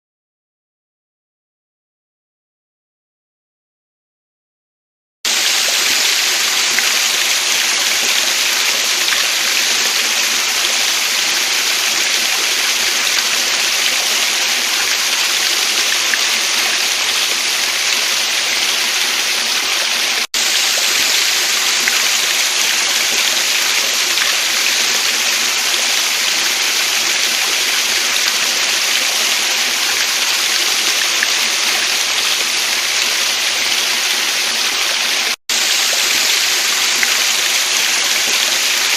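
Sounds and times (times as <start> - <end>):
waterfall rushing: 5.3 - 38.9.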